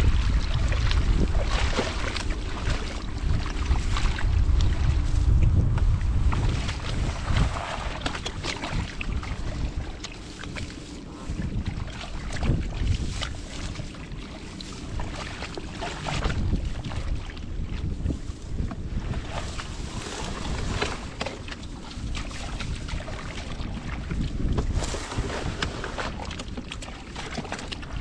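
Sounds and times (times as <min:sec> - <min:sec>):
small water splashes: 0:00.0 - 0:28.0
wind buffeting microphone: 0:00.0 - 0:28.0.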